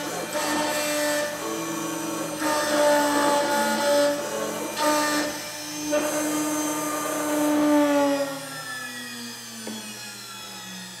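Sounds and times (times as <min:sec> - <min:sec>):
cutter engraving plastic: 0:00.0 - 0:11.0.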